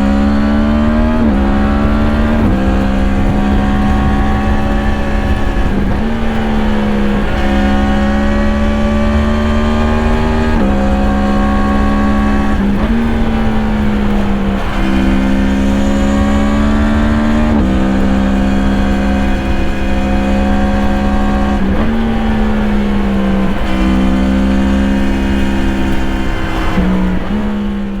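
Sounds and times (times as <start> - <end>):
motorcycle engine running hard: 0.0 - 28.0.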